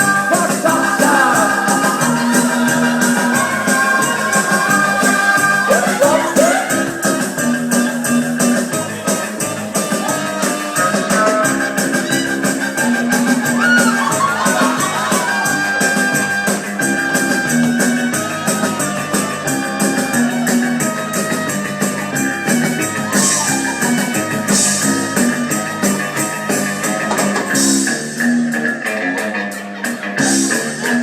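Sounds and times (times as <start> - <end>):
drum kit: 0.0 - 31.0
guitar: 0.0 - 31.0
live band playing: 0.0 - 31.0.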